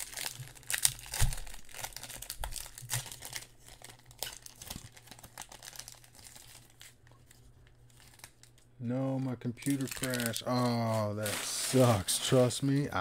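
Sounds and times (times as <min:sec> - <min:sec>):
plastic wrapper crinkling and tearing: 0:00.0 - 0:12.9.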